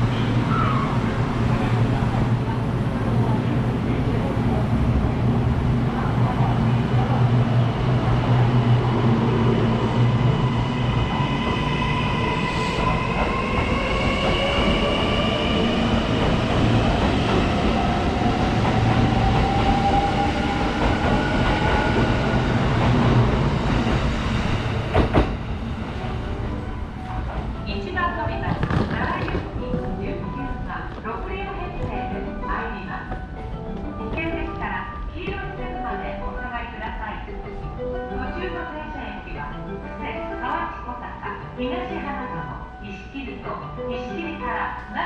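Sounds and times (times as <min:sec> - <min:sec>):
electric train rumbling: 0:00.0 - 0:45.0.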